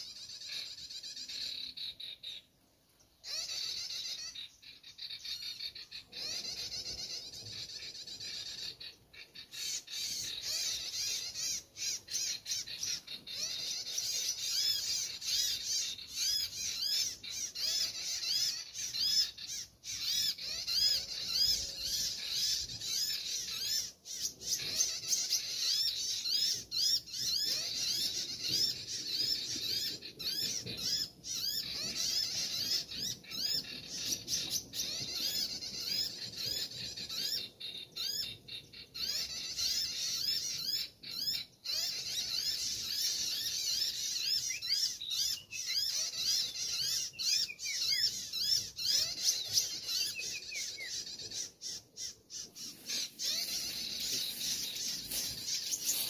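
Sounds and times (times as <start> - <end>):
rapid high bird chirps: 3.2 - 56.0.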